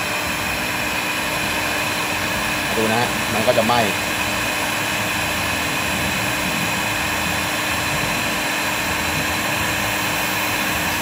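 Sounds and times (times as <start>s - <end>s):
heat gun fan whirring: 0.0s - 11.0s.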